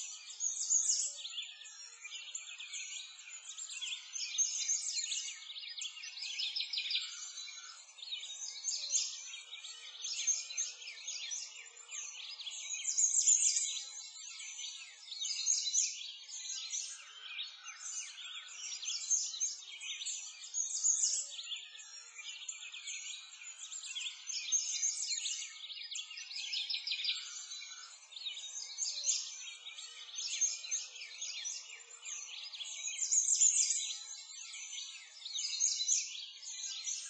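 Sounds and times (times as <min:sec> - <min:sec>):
birds chirping in chorus: 0:00.0 - 0:37.0.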